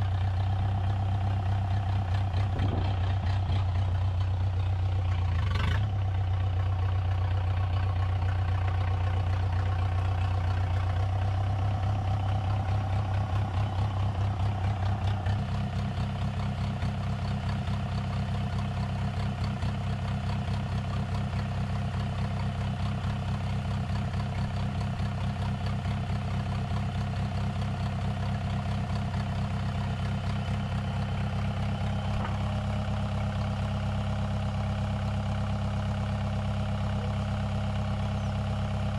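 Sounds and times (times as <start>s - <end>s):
small loader engine idling: 0.0s - 38.9s.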